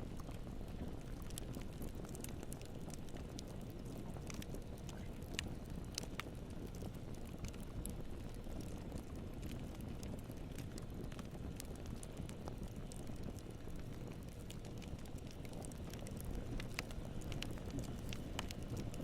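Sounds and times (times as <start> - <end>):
burning wood crackling and popping: 0.0 - 19.0
low rumble of fire: 0.0 - 19.0.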